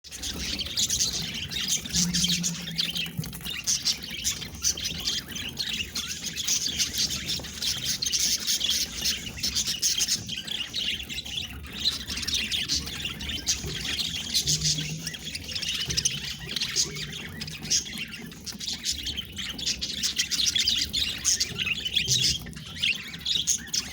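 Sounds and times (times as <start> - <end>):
budgerigars chattering and squawking: 0.1 - 23.9.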